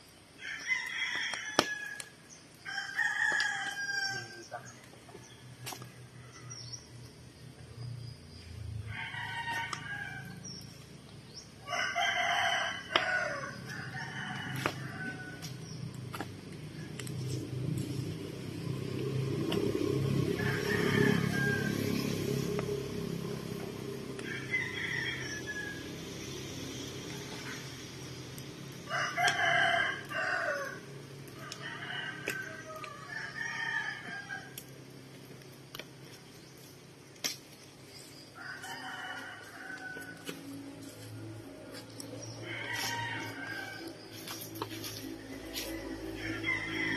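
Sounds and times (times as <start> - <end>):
roosters crowing: 0.2 - 7.2, 8.3 - 46.9.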